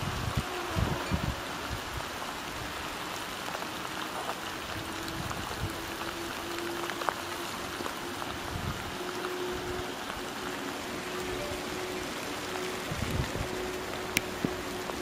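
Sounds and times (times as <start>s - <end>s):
steady rain falling: 0.0s - 15.0s
raindrop ticks: 1.2s - 15.0s.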